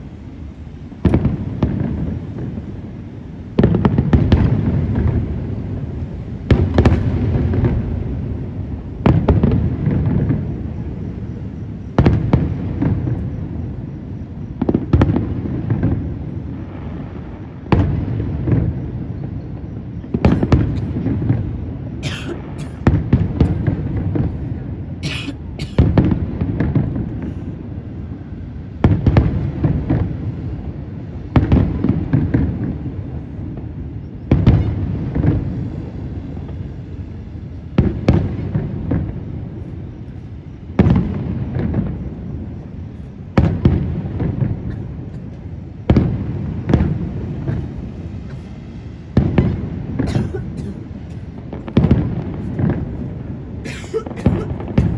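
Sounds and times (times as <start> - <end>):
fireworks bursting with bangs: 0.1 - 54.9.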